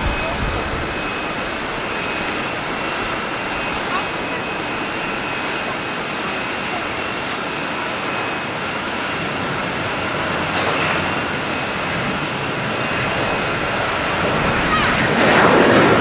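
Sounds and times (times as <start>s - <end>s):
jet engines at takeoff: 0.0s - 16.0s.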